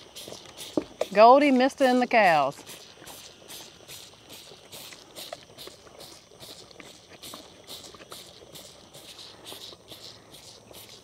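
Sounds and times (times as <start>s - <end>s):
calf sucking from bottle: 0.0s - 11.0s.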